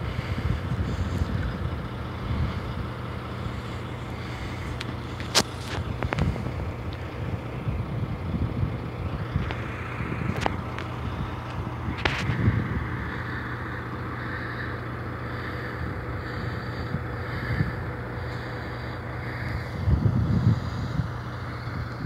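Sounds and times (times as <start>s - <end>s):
steady low hum: 0.0s - 22.0s
wind buffeting microphone: 0.0s - 22.0s.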